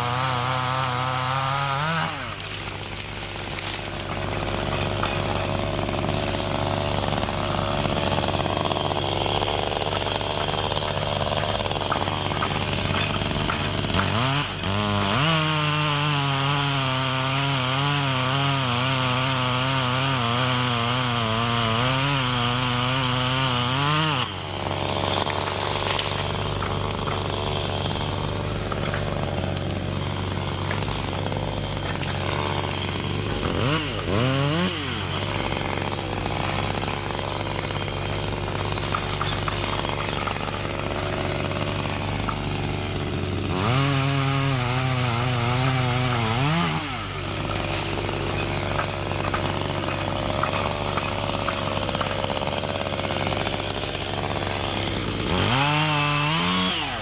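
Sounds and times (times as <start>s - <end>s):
chainsaw running and revving: 0.0s - 57.0s.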